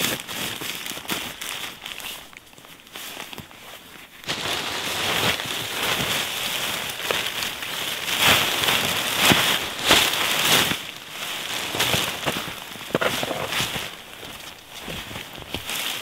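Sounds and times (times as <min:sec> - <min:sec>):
tent fabric rustling and flapping: 0:00.0 - 0:16.0.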